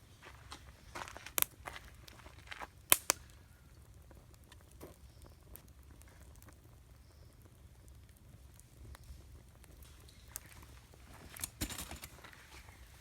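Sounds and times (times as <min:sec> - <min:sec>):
campfire crackling and popping: 0:00.2 - 0:13.0.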